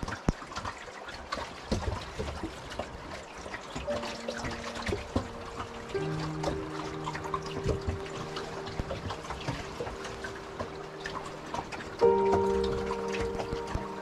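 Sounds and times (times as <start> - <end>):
water lapping against boat hull: 0.0 - 14.0
small irregular clicks: 1.4 - 14.0.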